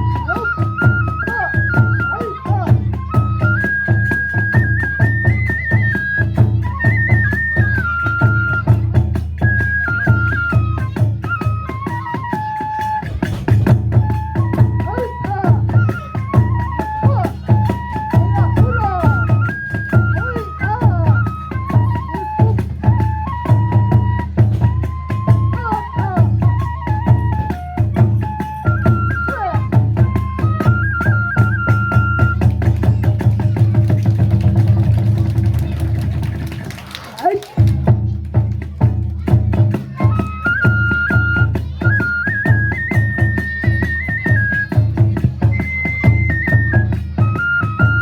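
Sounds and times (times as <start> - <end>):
bamboo flute melody: 0.0 - 48.0
drums beating: 0.0 - 48.0.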